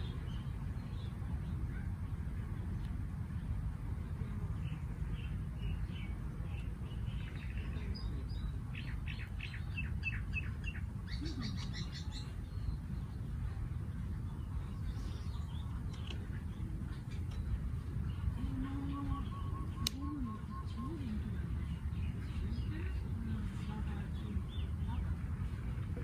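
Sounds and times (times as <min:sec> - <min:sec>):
low outdoor rumble: 0:00.0 - 0:26.0
wild birds chirping: 0:03.3 - 0:25.5.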